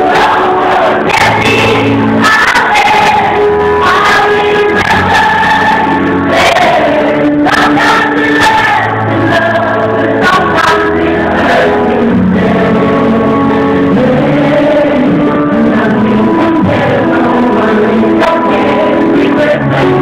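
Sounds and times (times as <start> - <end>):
live stage music: 0.0 - 20.0
person singing long notes: 0.0 - 20.0.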